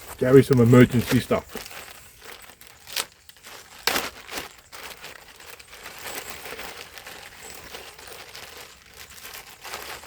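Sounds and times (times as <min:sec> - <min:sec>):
bag rustling and crinkling: 0:00.0 - 0:10.0.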